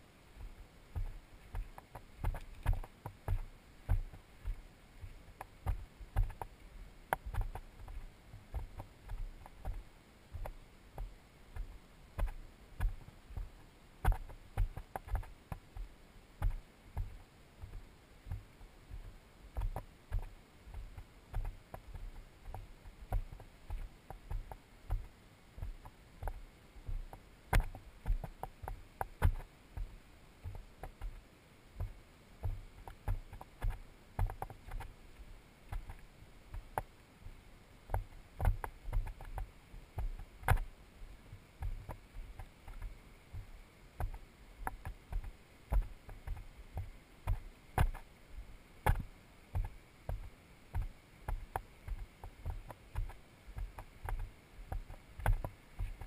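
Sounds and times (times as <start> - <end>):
footsteps on rock: 0.4 - 31.2, 31.8 - 40.7, 41.6 - 48.1, 48.8 - 56.0.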